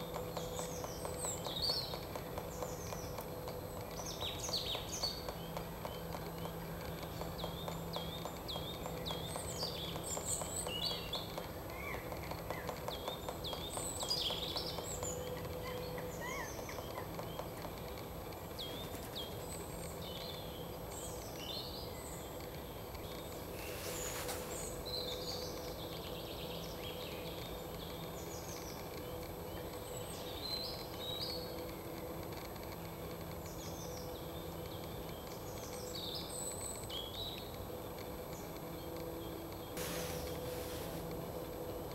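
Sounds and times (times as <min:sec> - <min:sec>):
low background hum: 0:00.0 - 0:41.9
small birds chirping: 0:00.0 - 0:41.9.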